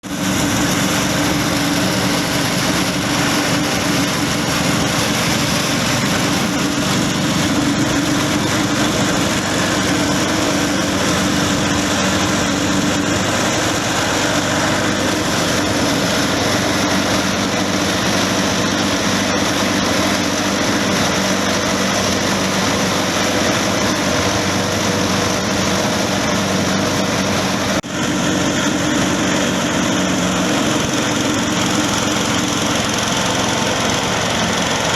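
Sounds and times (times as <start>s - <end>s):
grinding mill drone: 0.0s - 34.9s.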